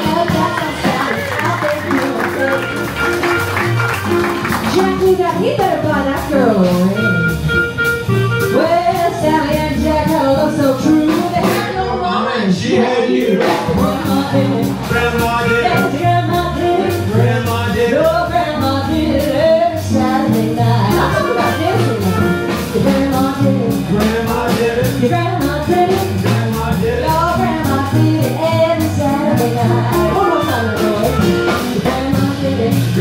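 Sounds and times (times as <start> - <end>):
woman singing: 0.0 - 2.9, 4.6 - 7.1, 8.5 - 33.0
swing jazz combo playing: 0.0 - 33.0.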